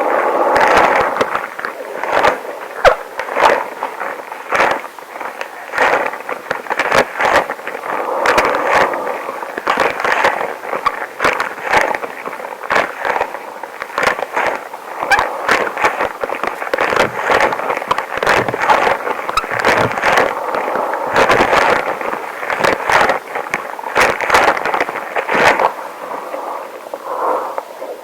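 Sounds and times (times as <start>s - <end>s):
crackles and snaps: 0.0s - 28.0s
rubber gloves rubbing and squeaking: 0.6s - 25.8s.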